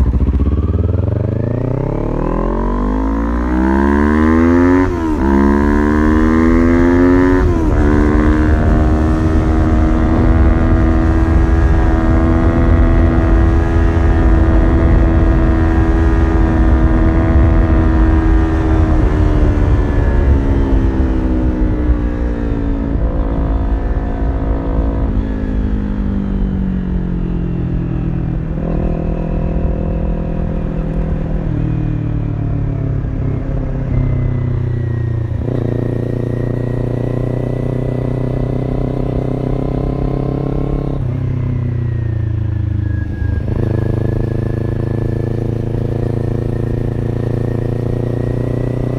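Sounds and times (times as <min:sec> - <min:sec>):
heavy wind rumble: 0:00.0 - 0:48.9
motorcycle engine revving: 0:00.0 - 0:48.9.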